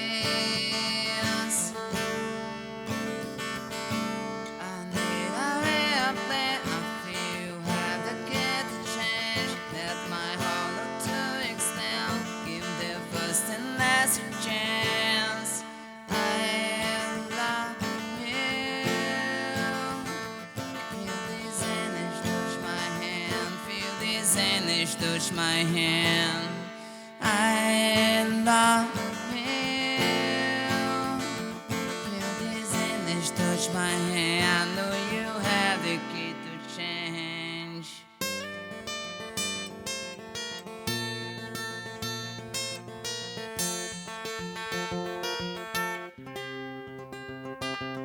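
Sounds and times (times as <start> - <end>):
strummed acoustic guitar: 0.0 - 48.0.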